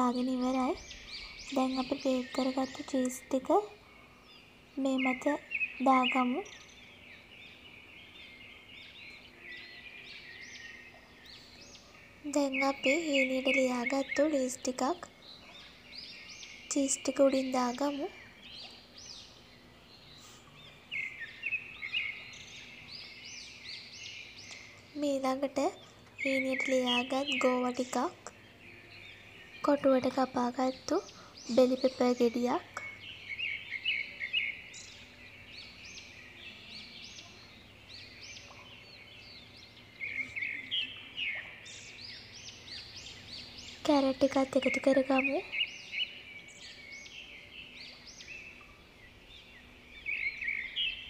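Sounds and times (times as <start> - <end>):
faint steady hum: 0.0 - 51.0
small birds chirping: 0.0 - 51.0.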